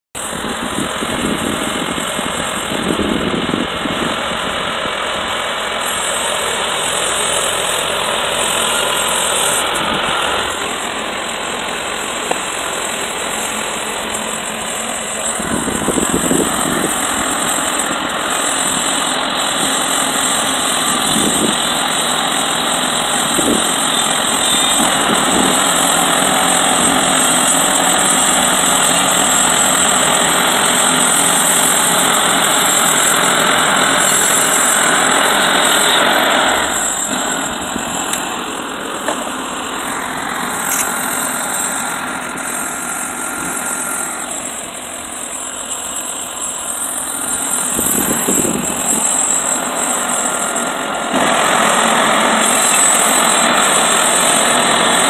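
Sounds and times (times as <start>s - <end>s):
sawmill engine running: 0.2s - 55.0s
band blade sawing through log: 5.4s - 55.0s.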